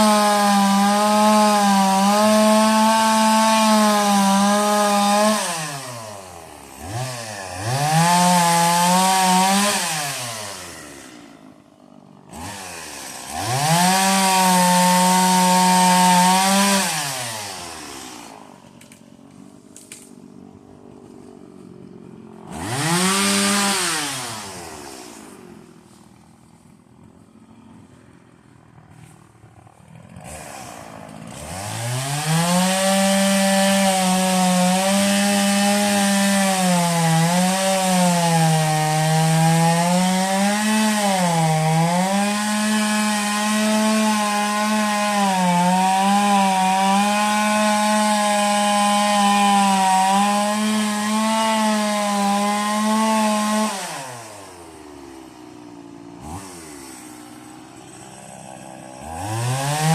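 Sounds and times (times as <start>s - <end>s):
chainsaw cutting wood: 0.0s - 59.9s
chainsaw idling and revving: 0.0s - 59.9s.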